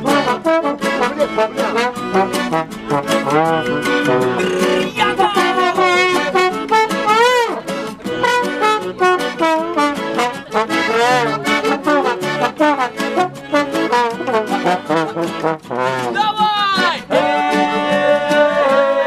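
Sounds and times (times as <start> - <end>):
steady beat: 0.0 - 15.6
brass-like sliding melody: 0.0 - 16.3, 17.0 - 19.0.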